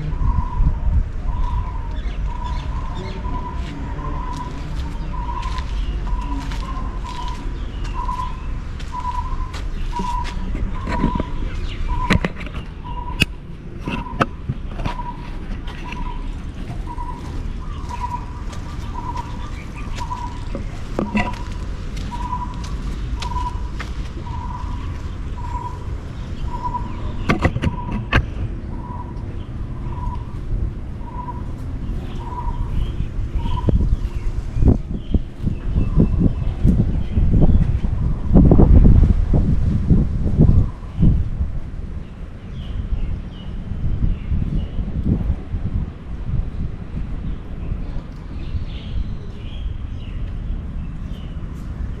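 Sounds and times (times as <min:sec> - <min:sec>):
low background rumble: 0:00.0 - 0:52.0.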